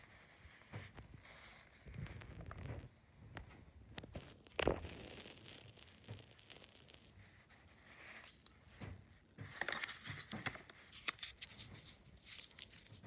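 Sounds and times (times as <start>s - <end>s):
plastic rustling hiss: 0.0s - 13.0s.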